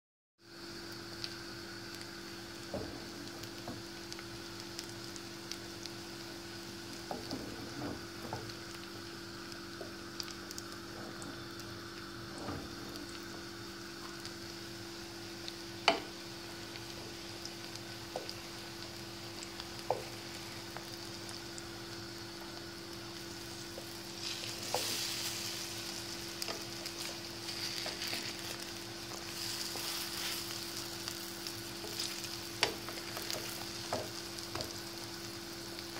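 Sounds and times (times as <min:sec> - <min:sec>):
bread frying in hot oil: 0:00.4 - 0:35.9
low steady hum: 0:00.4 - 0:35.9
oil crackles and pops: 0:00.8 - 0:35.9.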